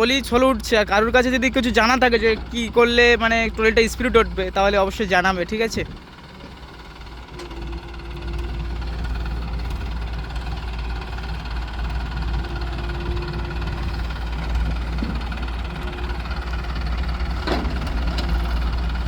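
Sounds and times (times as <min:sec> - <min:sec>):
tractor diesel engine working hard: 0:00.0 - 0:19.0.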